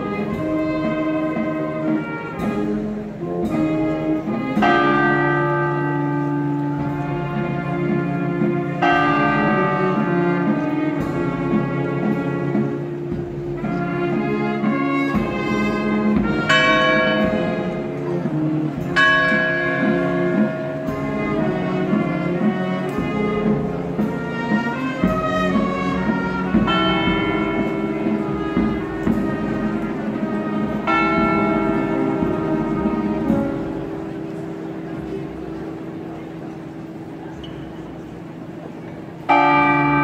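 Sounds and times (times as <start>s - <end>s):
brass band playing: 0.0s - 40.0s
church bells tolling: 0.0s - 40.0s.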